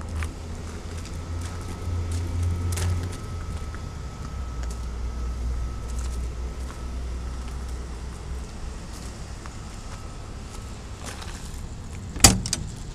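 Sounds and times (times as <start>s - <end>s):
diesel generator droning: 0.0s - 12.9s
faint steady whine: 0.0s - 12.9s.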